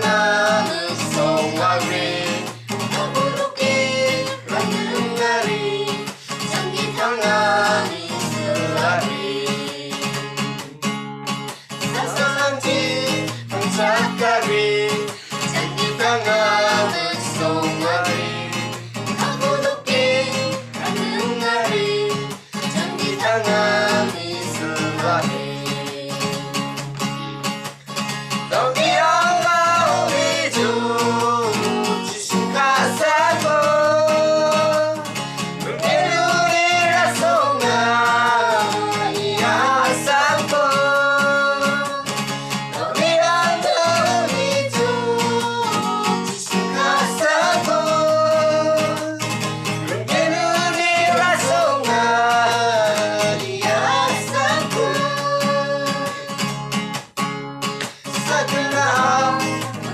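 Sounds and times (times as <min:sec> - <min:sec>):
group singing together: 0:00.0 - 0:26.9, 0:28.2 - 0:56.7, 0:57.8 - 0:59.9
strummed acoustic guitar: 0:00.0 - 0:59.9.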